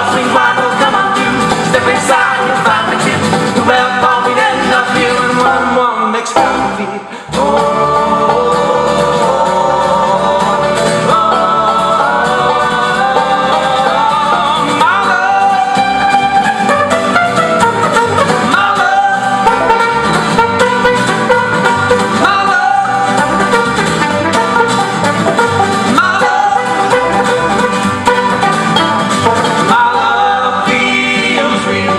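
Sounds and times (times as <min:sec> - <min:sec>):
acoustic folk band playing: 0:00.0 - 0:31.9
banjo: 0:00.0 - 0:31.9.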